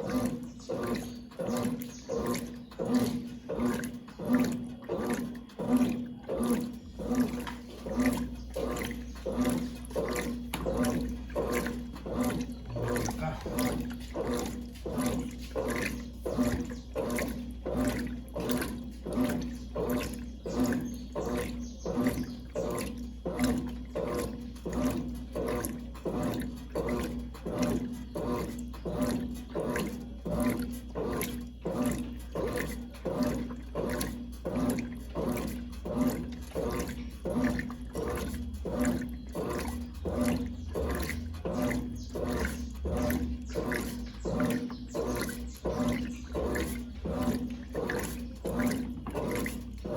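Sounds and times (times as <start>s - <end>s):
motor humming: 0.0s - 49.9s
washing machine agitator swishing: 0.0s - 49.9s.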